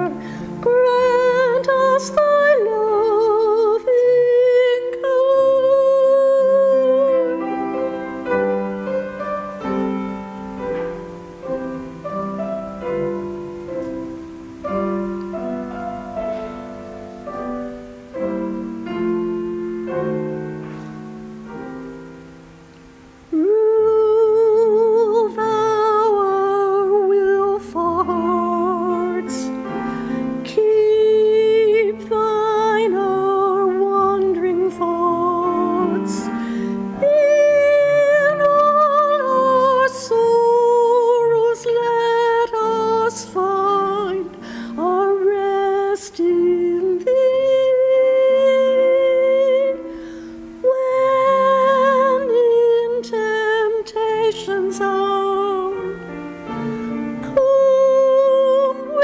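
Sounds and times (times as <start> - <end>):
woman singing with vibrato: 0.0 - 22.4, 23.0 - 59.0
piano: 0.0 - 59.0.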